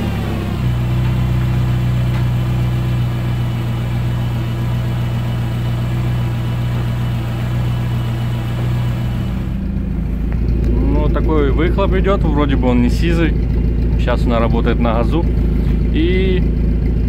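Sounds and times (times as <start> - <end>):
car engine idling loud exhaust: 0.0 - 17.0.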